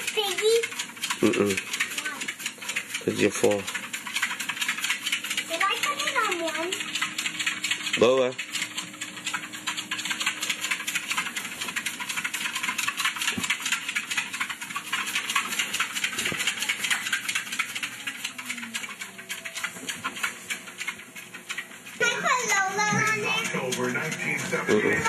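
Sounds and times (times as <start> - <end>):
dog claws clicking on treadmill belt: 0.0 - 25.0
treadmill motor hum: 0.0 - 25.0.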